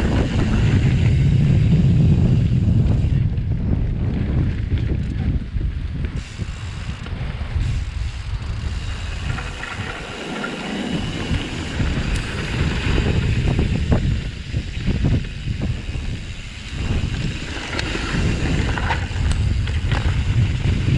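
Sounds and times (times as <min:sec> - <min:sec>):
bike rattling: 0:00.0 - 0:20.9
wind rushing over microphone: 0:00.0 - 0:20.9.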